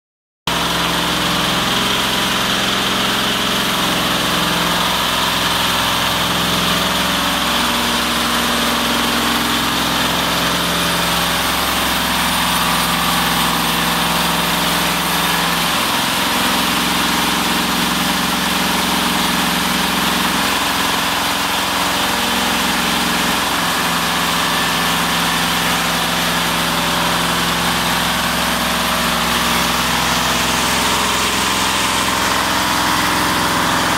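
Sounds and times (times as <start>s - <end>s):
band saw cutting log: 0.5s - 33.9s
diesel engine running: 0.5s - 33.9s.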